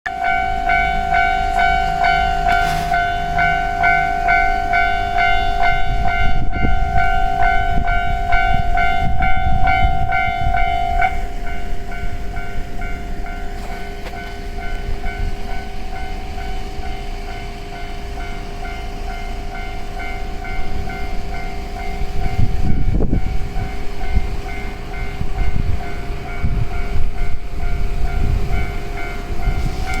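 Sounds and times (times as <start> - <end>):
level crossing warning bell: 0.0 - 30.0
train rumbling past: 0.1 - 30.0.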